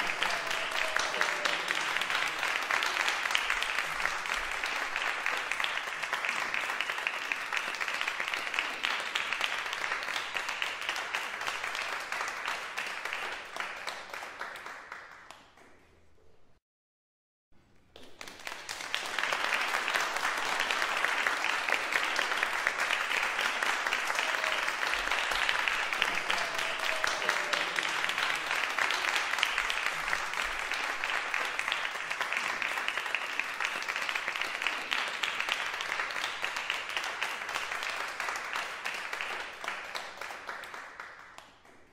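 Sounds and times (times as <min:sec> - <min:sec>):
crowd applauding: 0:00.0 - 0:15.7, 0:18.0 - 0:41.9.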